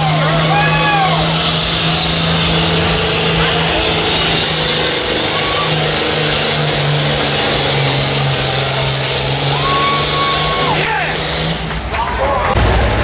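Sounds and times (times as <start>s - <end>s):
tractor engine at full power: 0.0s - 13.0s.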